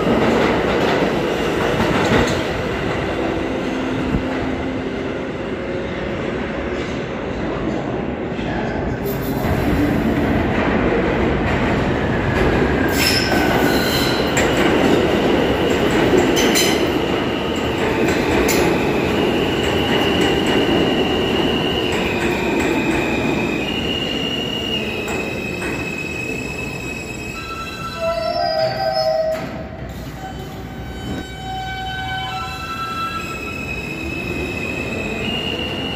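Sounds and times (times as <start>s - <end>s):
subway train rumbling on rails: 0.0s - 35.9s.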